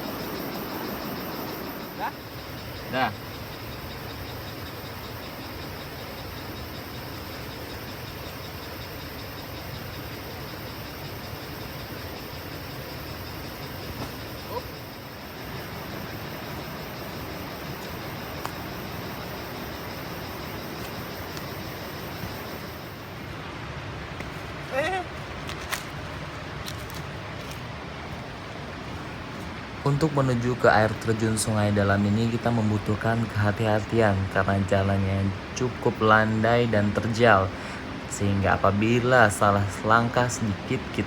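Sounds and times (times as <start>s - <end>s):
steady rushing noise: 0.0s - 41.0s.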